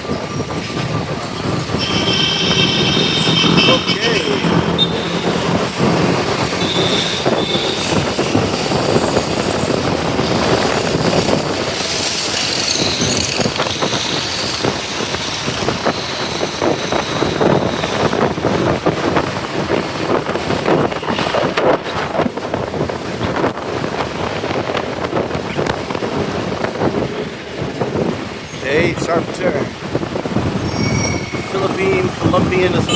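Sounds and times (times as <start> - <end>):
motorcycle running: 0.0 - 30.8
wind buffeting microphone: 0.0 - 32.9.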